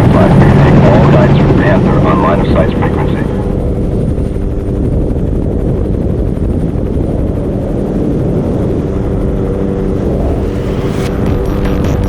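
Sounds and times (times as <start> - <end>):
helicopter rotor and engine rumble: 0.0 - 12.0.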